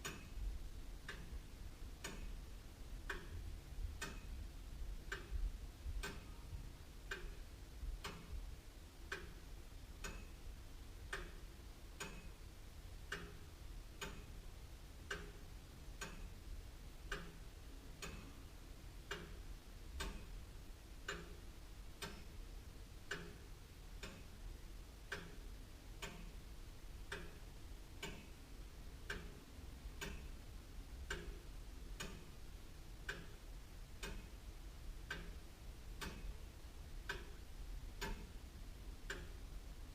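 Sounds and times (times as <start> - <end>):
clock ticking: 0.0 - 0.4, 1.0 - 2.4, 3.0 - 4.4, 5.0 - 8.4, 9.1 - 12.4, 13.0 - 14.4, 15.0 - 16.4, 17.0 - 20.4, 21.0 - 30.4, 31.0 - 39.6.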